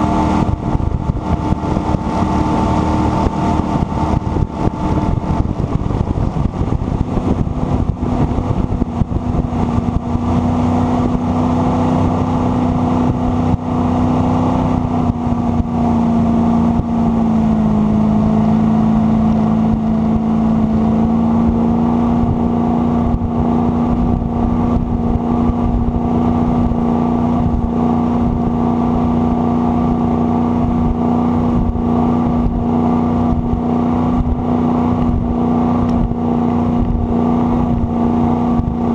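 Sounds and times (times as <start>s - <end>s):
boat engine running: 0.0s - 38.9s
water rushing: 0.0s - 38.9s.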